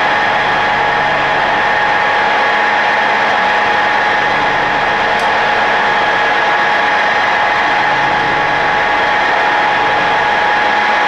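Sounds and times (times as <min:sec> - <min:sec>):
machine spindle whining: 0:00.0 - 0:11.0.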